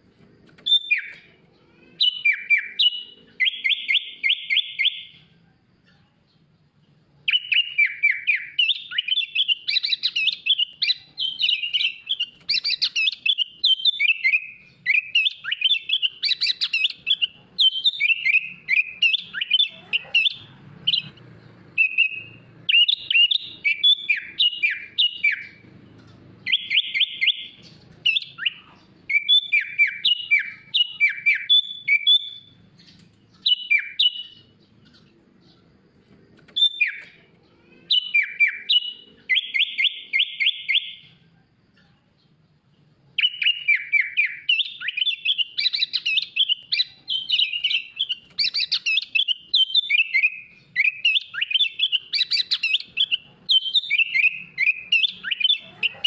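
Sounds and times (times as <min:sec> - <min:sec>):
bulbul chirping song: 0:00.0 - 0:56.0.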